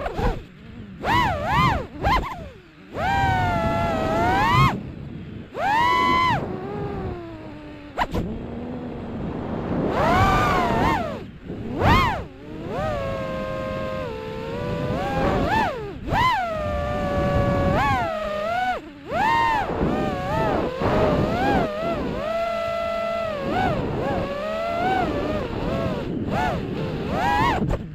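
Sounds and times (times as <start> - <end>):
small engine revving: 0.0 - 27.9.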